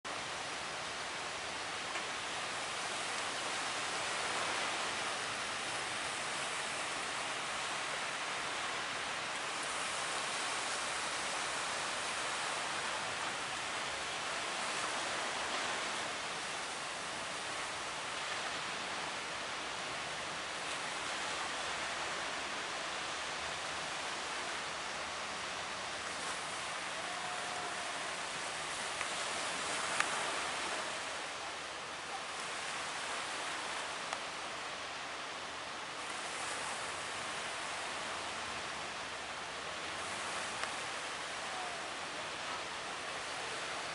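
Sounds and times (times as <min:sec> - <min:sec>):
surf breaking on shore: 0:00.1 - 0:43.9.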